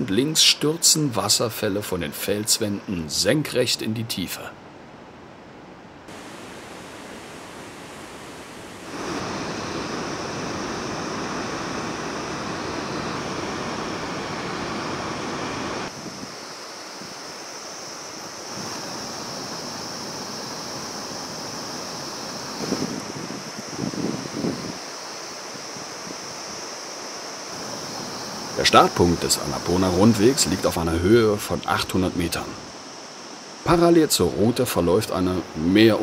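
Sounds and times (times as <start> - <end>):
waterfall rushing water: 6.1 - 36.0.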